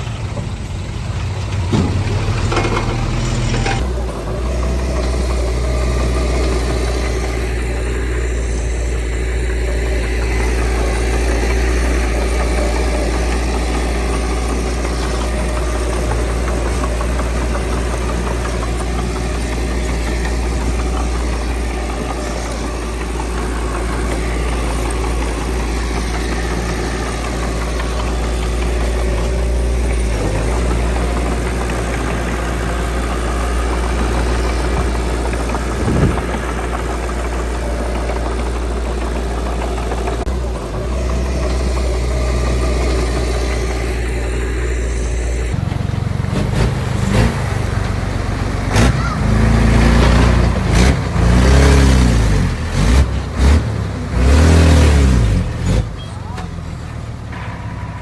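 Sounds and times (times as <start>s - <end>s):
diesel engine rumbling: 0.0s - 58.0s
engine knocking clatter: 0.0s - 58.0s.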